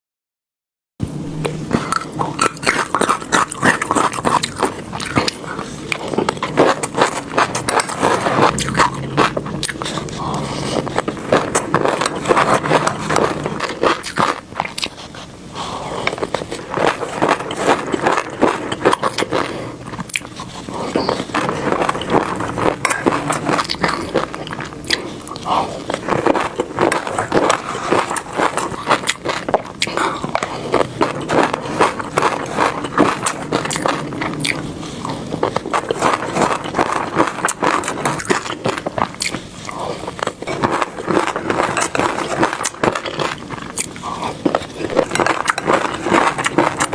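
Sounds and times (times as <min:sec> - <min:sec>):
chewing fish roe popping: 0:01.0 - 0:46.9.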